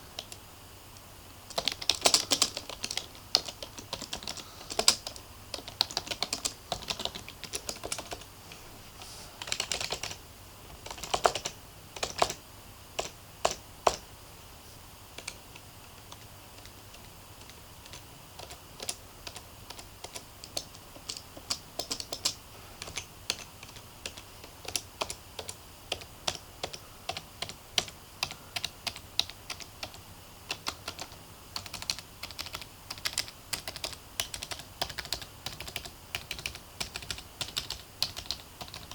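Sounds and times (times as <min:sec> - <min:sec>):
keyboard typing: 0:01.5 - 0:08.3, 0:09.4 - 0:12.4, 0:13.0 - 0:14.0, 0:15.2 - 0:38.9.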